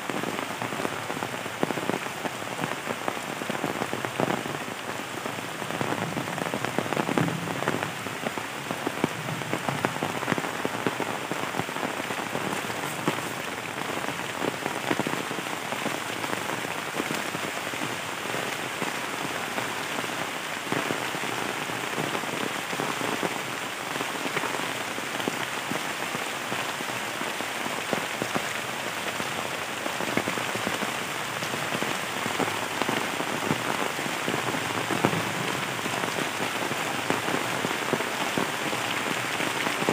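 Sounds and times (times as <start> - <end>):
heavy rain on leaves: 0.0 - 39.9
raindrops hitting close by: 0.0 - 39.9.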